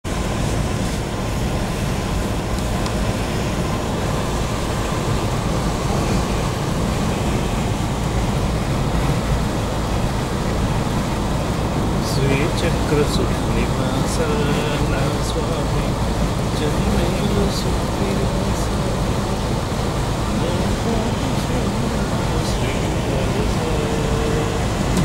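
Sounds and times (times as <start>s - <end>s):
tyres on wet road: 0.0s - 25.0s
vehicle engine rumble: 0.0s - 25.0s.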